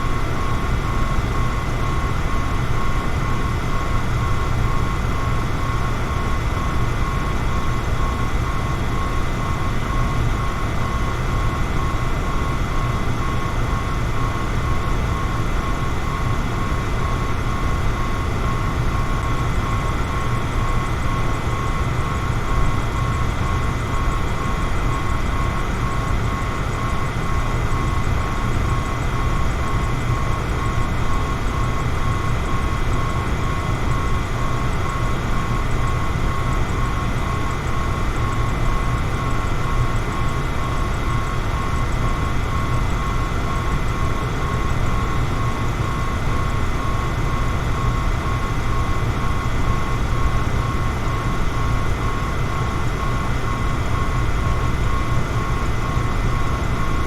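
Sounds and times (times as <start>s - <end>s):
thin steady whine: 0.0s - 57.0s.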